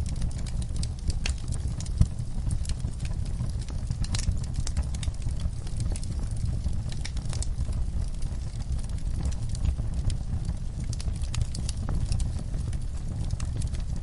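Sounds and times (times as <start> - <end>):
burning logs crackling: 0.0 - 14.0
low rumble of flames: 0.0 - 14.0.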